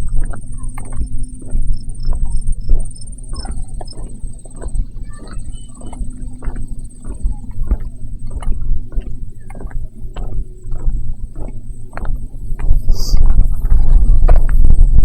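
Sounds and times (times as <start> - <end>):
footsteps walking: 0.0 - 15.0
heavy low rumble: 0.0 - 15.0.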